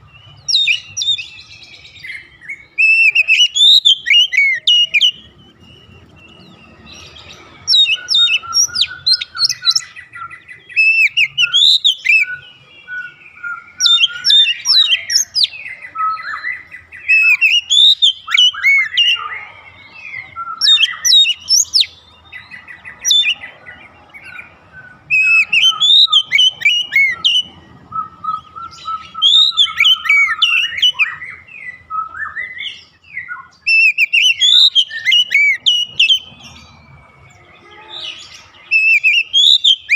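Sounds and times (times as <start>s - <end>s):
bird singing sharp whistled notes: 0.0s - 23.5s, 24.2s - 39.9s.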